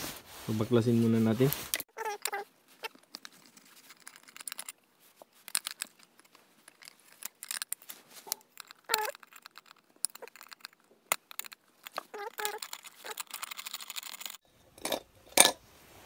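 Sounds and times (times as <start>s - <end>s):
kettle base handling clicks and scrapes: 1.7s - 15.6s.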